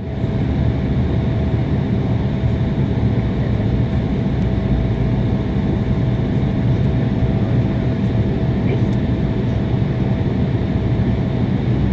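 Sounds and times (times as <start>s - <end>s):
jet engines rumbling in cabin: 0.0s - 11.9s.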